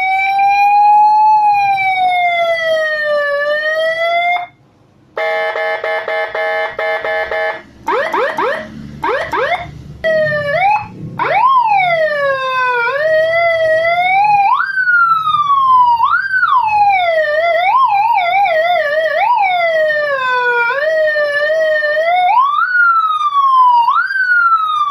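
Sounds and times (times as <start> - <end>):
electronic siren: 0.0 - 4.6, 5.2 - 24.9.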